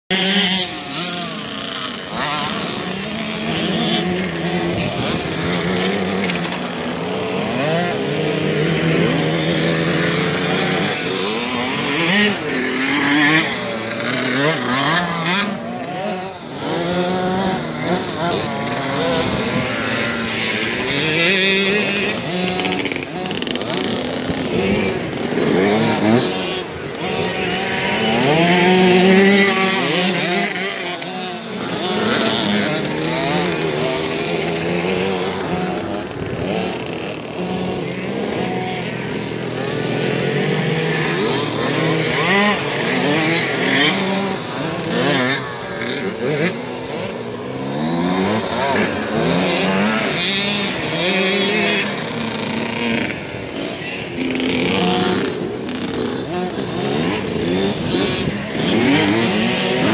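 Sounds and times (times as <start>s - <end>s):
small dirt bikes revving: 0.0s - 59.9s.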